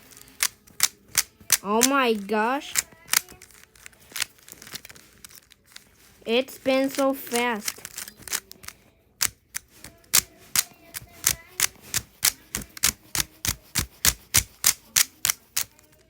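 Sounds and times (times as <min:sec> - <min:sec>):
puzzle cube layers clicking: 0:00.0 - 0:05.9, 0:06.8 - 0:15.8.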